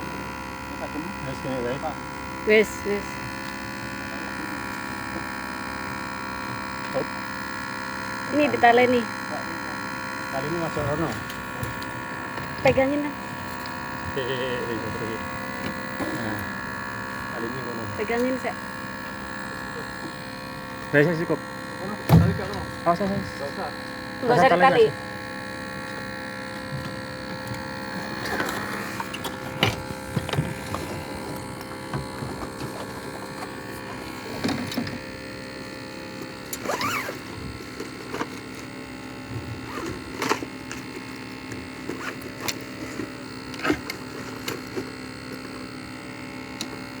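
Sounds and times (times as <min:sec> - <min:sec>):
mechanical hum: 0:00.0 - 0:47.0.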